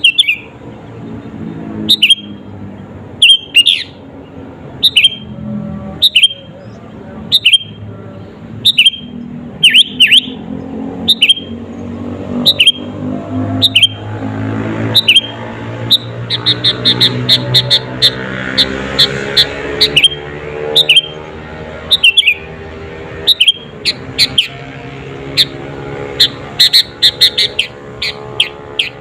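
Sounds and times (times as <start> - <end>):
bulbul calling: 0.0 - 0.5, 1.2 - 2.5, 3.2 - 5.4, 6.0 - 10.4, 11.0 - 13.0, 13.6 - 14.2, 14.8 - 21.3, 21.9 - 22.5, 23.2 - 29.0.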